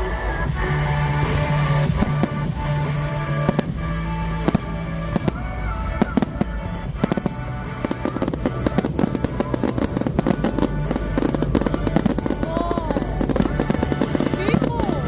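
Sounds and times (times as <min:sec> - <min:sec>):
background music: 0:00.0 - 0:15.0
fireworks bangs and crackles: 0:00.0 - 0:15.0.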